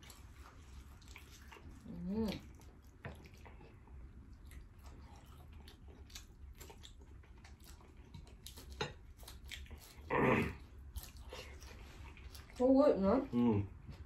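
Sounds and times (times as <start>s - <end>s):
chewing and biting food: 0.0s - 12.8s.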